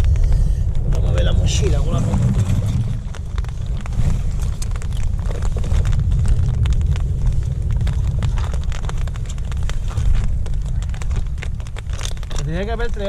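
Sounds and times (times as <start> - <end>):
rain pattering: 0.0 - 13.0
wind buffeting microphone: 0.0 - 13.0.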